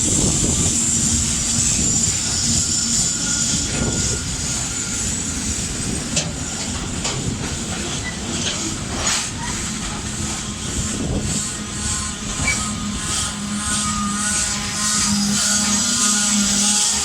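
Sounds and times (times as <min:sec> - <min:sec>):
train wheels rumbling on rail: 0:00.0 - 0:17.0
wheel clicks and squeals: 0:00.8 - 0:10.5, 0:11.4 - 0:17.0.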